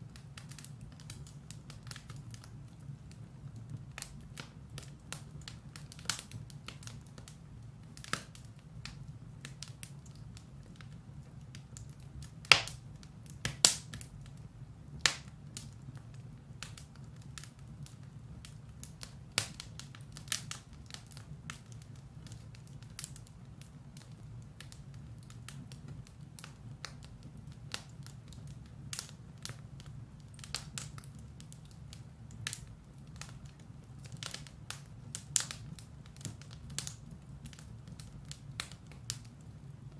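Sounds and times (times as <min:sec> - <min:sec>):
firewood crackling and popping: 0:00.0 - 0:39.9
low fire rumble: 0:00.0 - 0:39.9.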